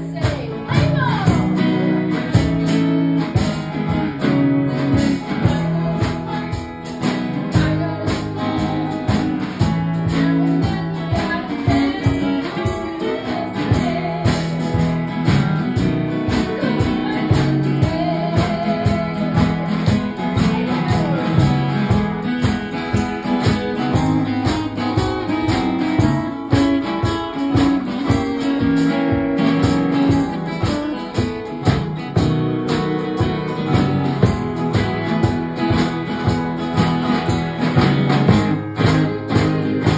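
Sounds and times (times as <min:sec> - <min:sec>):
guitar strumming: 0:00.0 - 0:39.9.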